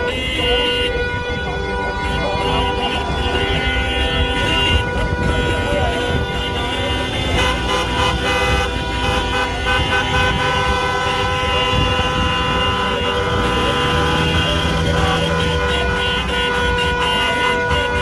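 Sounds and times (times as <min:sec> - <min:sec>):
car horns honking: 0:00.0 - 0:18.0
moving car engine and road noise: 0:00.0 - 0:18.0.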